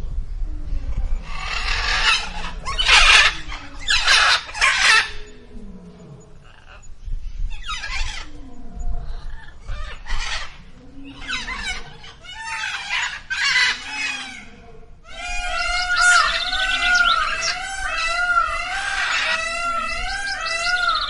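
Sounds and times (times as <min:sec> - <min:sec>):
chorus of bird calls: 0:00.8 - 0:21.0
chickens squawking and clucking: 0:01.4 - 0:06.9, 0:09.3 - 0:21.0.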